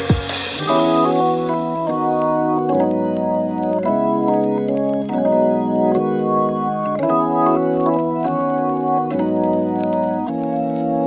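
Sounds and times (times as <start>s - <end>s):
sustained organ-like chords: 0.4s - 11.0s.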